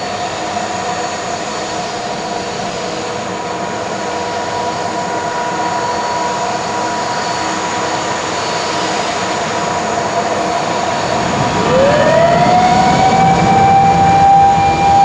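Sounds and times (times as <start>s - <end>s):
jet engines whining and roaring: 0.0s - 15.0s.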